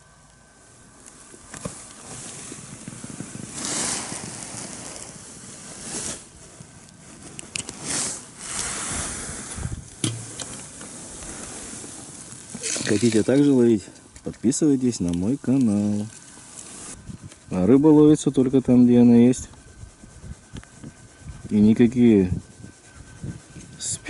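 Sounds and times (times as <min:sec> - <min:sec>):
wind gusting across microphone: 0:00.8 - 0:24.0.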